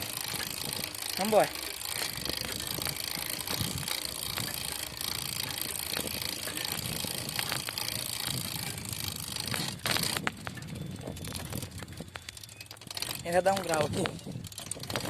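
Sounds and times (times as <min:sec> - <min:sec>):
bicycle riding rush: 0:00.0 - 0:15.0
bicycle running noise: 0:00.0 - 0:15.0.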